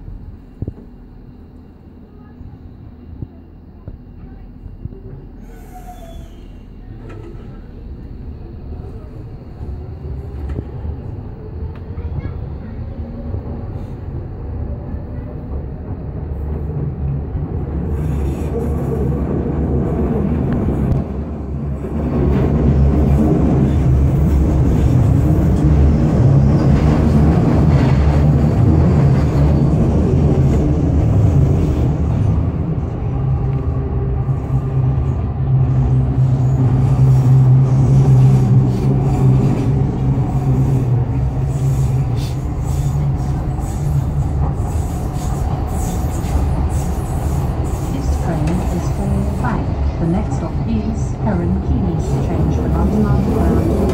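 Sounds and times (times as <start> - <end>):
train passing alongside: 0.0 - 53.9
train rumble and hum: 0.0 - 53.9.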